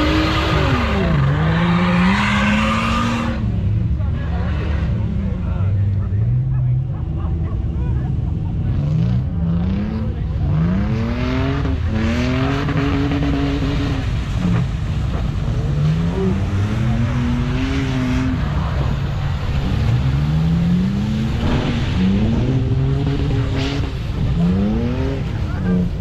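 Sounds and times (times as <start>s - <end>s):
off-road engines revving: 0.0s - 26.0s.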